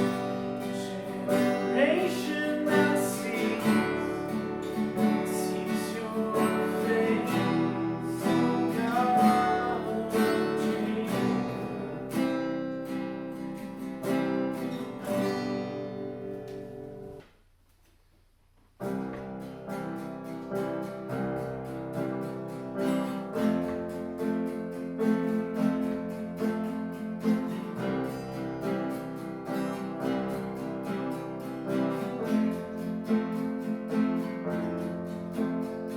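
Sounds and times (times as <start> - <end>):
acoustic guitar strumming chords: 0.0 - 17.2, 18.8 - 35.9.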